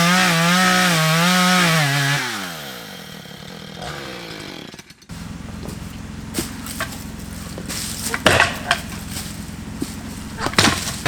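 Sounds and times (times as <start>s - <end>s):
chainsaw running: 0.0s - 11.0s.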